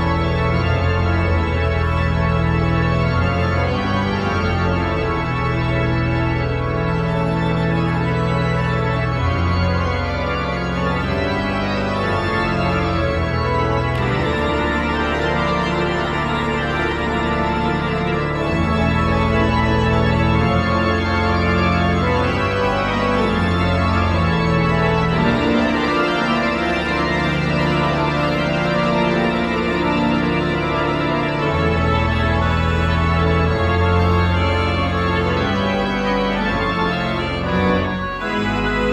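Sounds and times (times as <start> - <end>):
pipe organ chords: 0.0 - 38.9.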